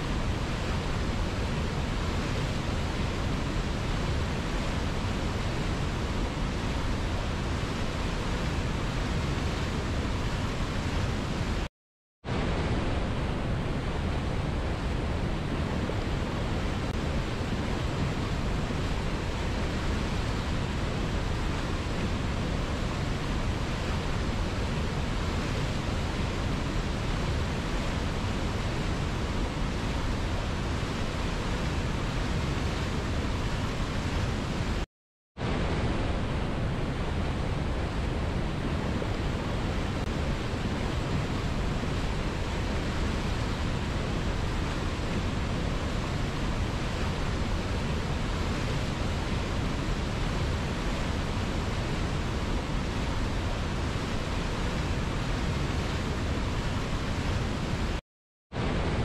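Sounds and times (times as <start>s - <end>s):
white water rushing over rapids: 0.0s - 11.7s, 12.3s - 34.8s, 35.4s - 58.0s, 58.6s - 59.0s.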